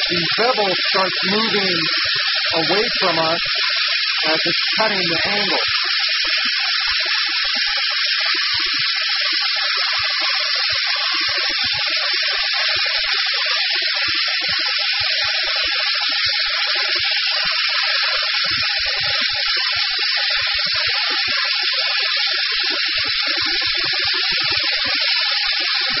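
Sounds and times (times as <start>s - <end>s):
waterjet cutting hiss: 0.0s - 26.0s.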